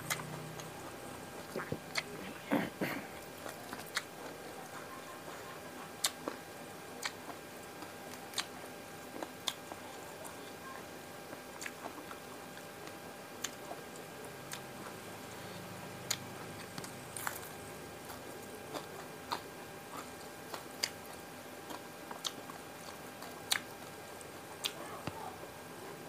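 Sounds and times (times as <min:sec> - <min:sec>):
chewing and biting: 0:00.0 - 0:02.2, 0:02.9 - 0:04.7, 0:05.4 - 0:06.4, 0:07.0 - 0:10.4, 0:11.3 - 0:15.0, 0:15.9 - 0:24.8.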